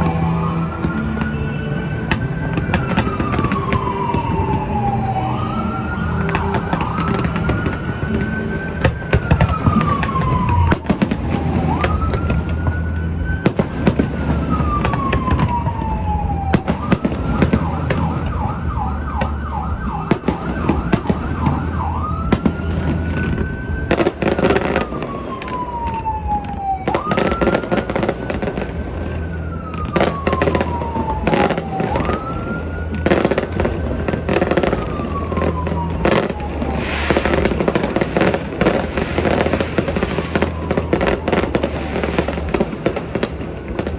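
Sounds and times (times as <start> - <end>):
emergency vehicle siren: 0.0 - 43.9
fireworks bursting: 0.0 - 43.9.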